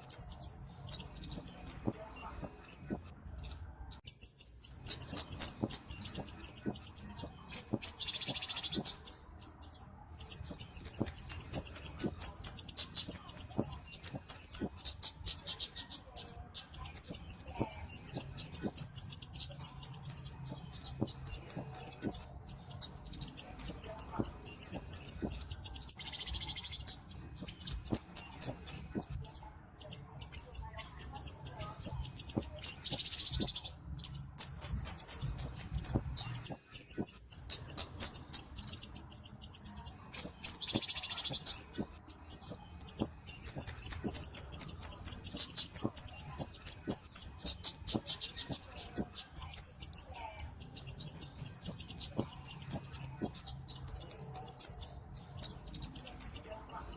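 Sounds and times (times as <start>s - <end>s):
bird song with high ticking notes: 0.0s - 56.9s.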